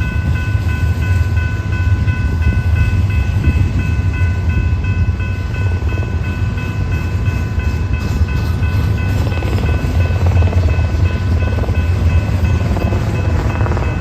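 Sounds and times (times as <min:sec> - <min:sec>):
train passing rumble: 0:00.0 - 0:14.0.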